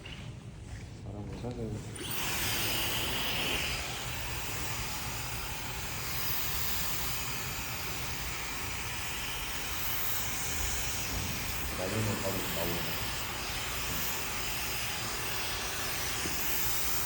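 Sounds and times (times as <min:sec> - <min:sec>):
hair dryer running: 0:01.9 - 0:17.0.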